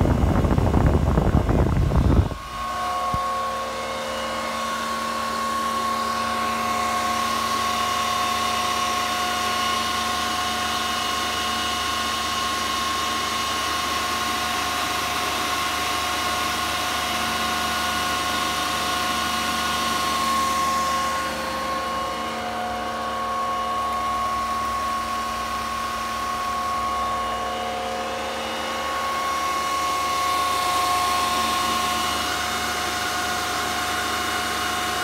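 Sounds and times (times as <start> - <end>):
cooling fans whining: 0.0 - 35.0.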